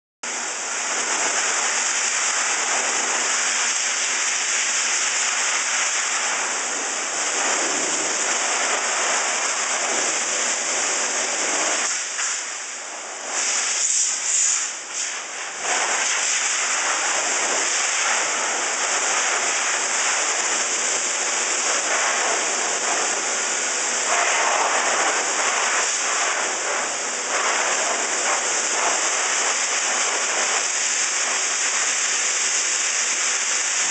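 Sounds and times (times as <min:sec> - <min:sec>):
air rushing through hose: 0:00.3 - 0:33.9
grooming vacuum blower running: 0:00.3 - 0:33.9.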